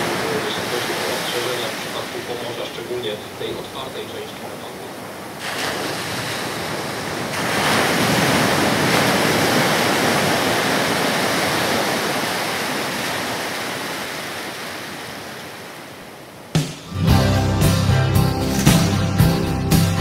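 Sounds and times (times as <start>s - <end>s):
wind: 0.0s - 16.6s
sea waves rushing: 0.0s - 20.0s.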